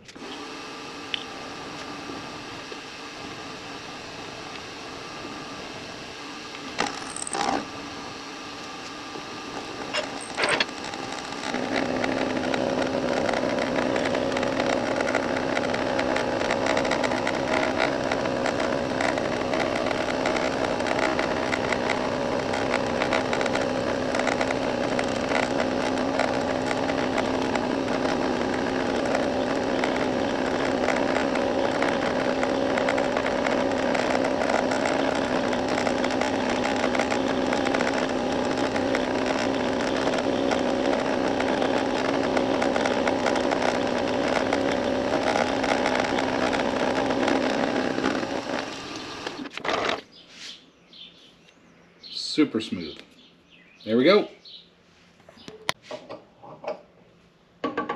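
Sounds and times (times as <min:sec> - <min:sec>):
milling machine running hum: 0:00.0 - 0:50.0.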